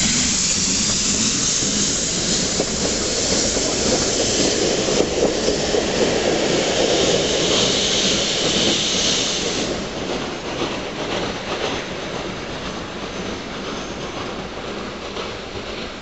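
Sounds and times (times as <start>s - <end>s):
steam hissing: 0.0s - 16.0s
train rumbling on rails: 0.0s - 16.0s.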